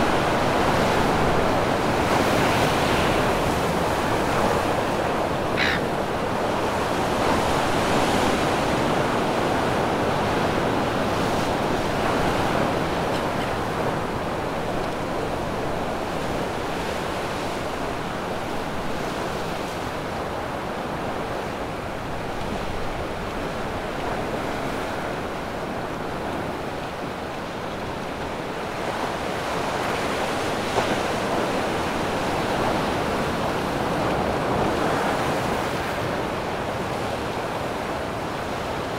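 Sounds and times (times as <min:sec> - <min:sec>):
ocean surf breaking on rocks: 0:00.0 - 0:38.9.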